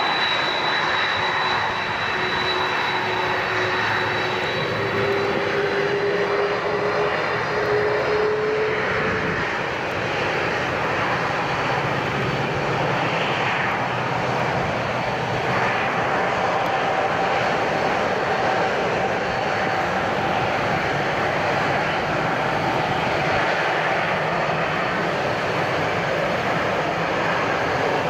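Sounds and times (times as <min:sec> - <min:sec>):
jet engine whine: 0:00.0 - 0:28.0
jet engines rushing: 0:00.0 - 0:28.0.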